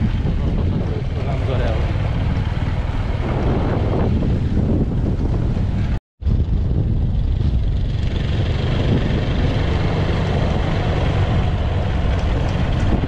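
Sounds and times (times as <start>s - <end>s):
vehicle road rumble: 0.0s - 13.0s
wind buffeting microphone: 0.0s - 13.0s.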